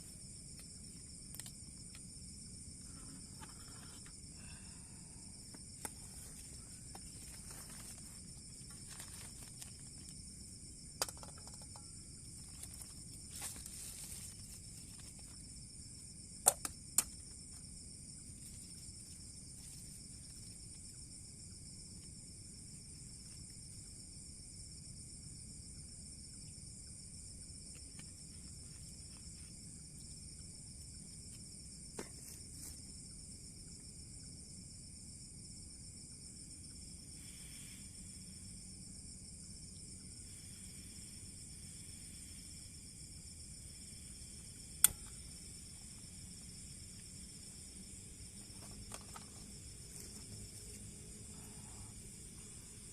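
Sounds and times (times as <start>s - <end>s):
crickets and insects chirping: 0.0s - 52.9s.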